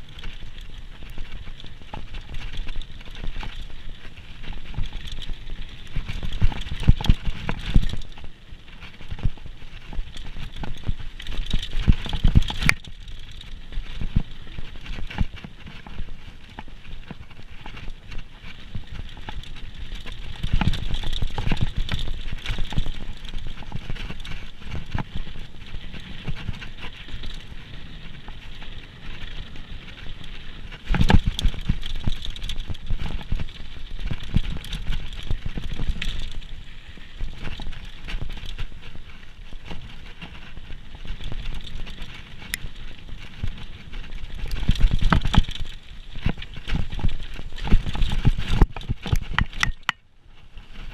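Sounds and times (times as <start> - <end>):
bike rattling: 0.0 - 50.9
tyres on dirt: 0.0 - 50.9.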